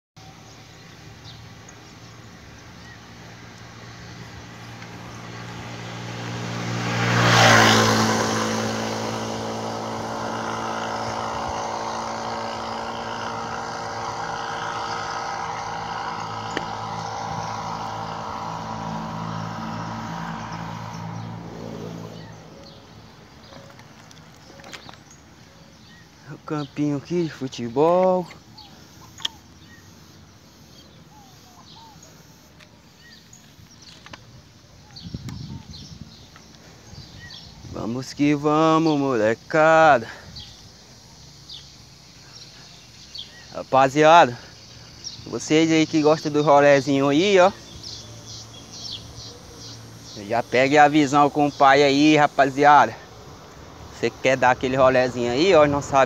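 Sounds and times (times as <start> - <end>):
vehicle engine passing by: 1.2 - 56.0.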